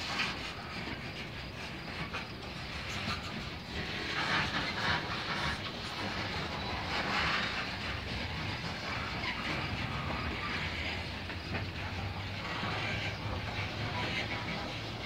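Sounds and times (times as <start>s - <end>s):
freight train wheels on rails: 0.0s - 15.0s
train cars creaking: 0.0s - 15.0s.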